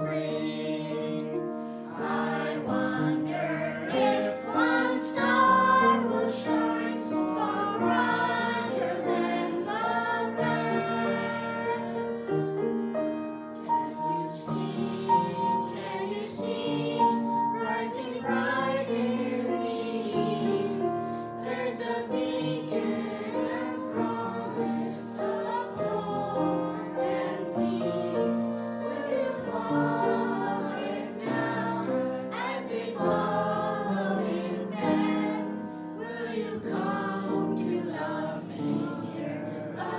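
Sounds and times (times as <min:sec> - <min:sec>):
choir singing: 0:00.0 - 0:39.9
musical accompaniment: 0:00.0 - 0:39.9.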